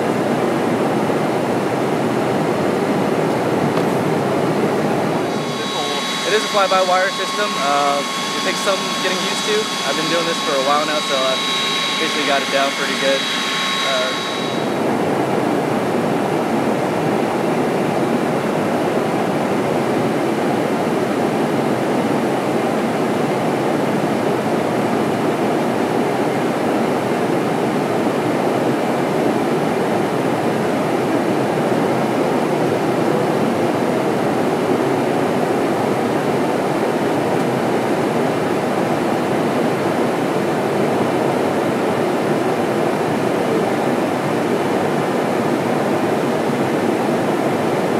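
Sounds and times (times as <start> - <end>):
aircraft cabin airflow and engine roar: 0.0 - 47.9.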